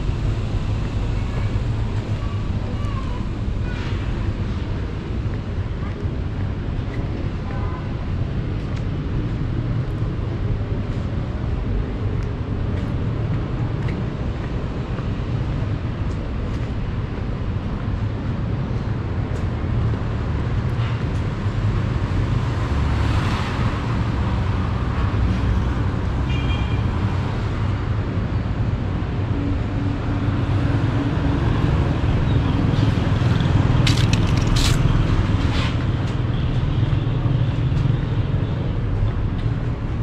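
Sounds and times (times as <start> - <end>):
low rumble of city noise: 0.0 - 40.0.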